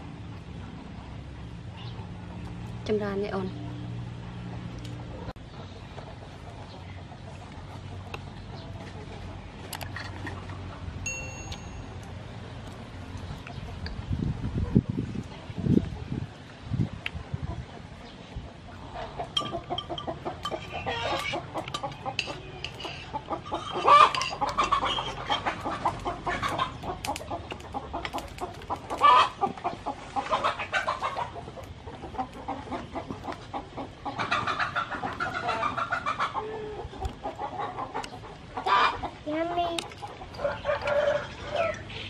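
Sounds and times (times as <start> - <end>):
chickens clucking: 3.4 - 11.8, 12.6 - 42.0.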